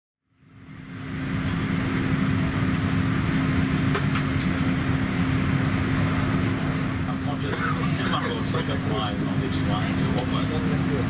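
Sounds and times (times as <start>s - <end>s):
airliner cabin hum: 0.3s - 11.0s.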